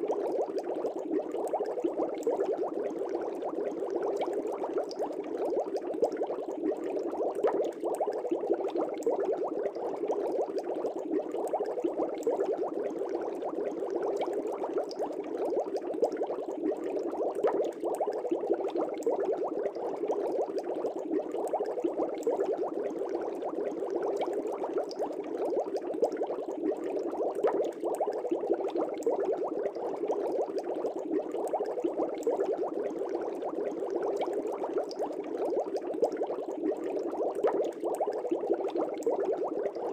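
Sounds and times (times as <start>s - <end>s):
aquarium air bubbles gurgling: 0.0s - 39.9s.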